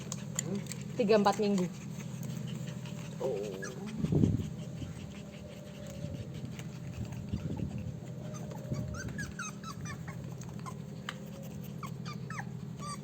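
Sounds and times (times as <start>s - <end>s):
dog whimpering and growling: 0.0s - 13.0s
steady low hum: 0.0s - 13.0s.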